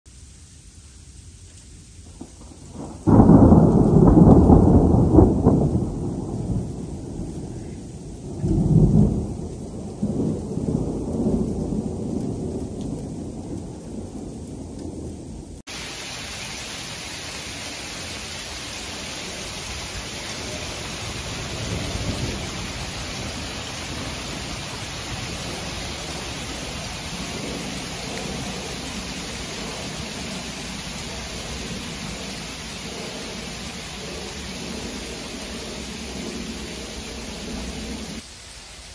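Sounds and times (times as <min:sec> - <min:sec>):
thunder crack and rumble: 0:02.0 - 0:15.7, 0:20.4 - 0:38.2.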